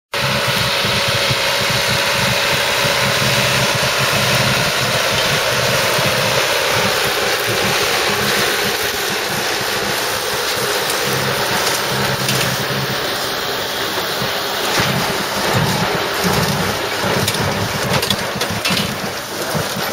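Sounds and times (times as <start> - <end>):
tractor diesel engine running: 0.1 - 19.9
baler machinery working: 0.2 - 19.9.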